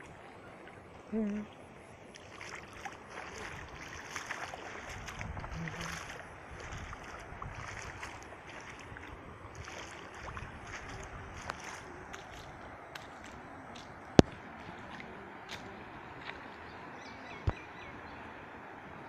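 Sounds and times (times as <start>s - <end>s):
floodwater rushing: 0.0s - 19.0s
wind buffeting microphone: 2.8s - 18.0s.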